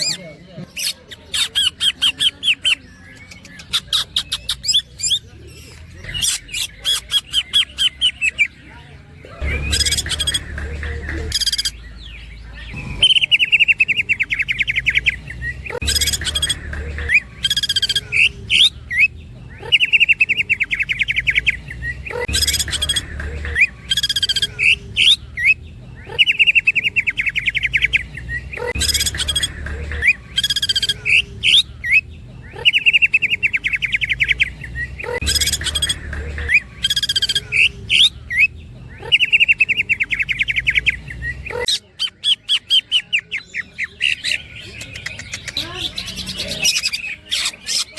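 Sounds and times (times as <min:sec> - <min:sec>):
bird singing trills: 0:00.0 - 0:47.9.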